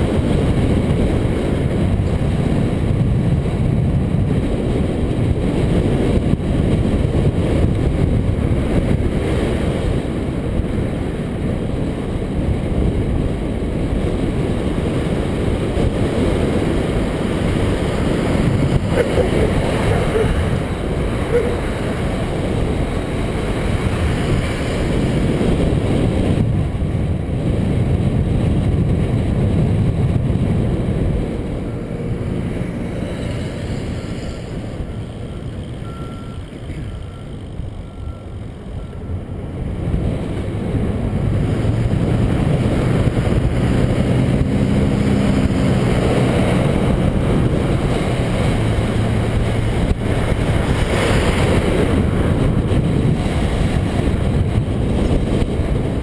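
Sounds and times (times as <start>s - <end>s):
vehicle running noise: 0.0s - 56.0s
wind buffeting microphone: 0.0s - 56.0s.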